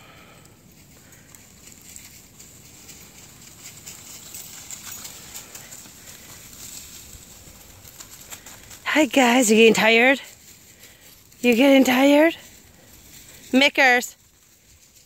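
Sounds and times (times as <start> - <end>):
dogs running over dry leaves: 0.0 - 15.0.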